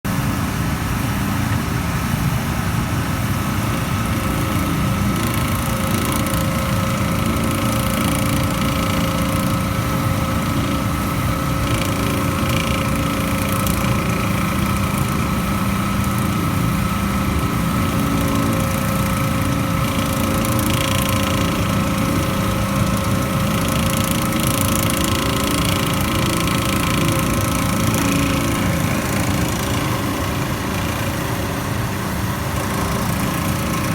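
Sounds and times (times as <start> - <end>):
machine running steadily: 0.0 - 33.9
grinding noise: 3.2 - 33.9.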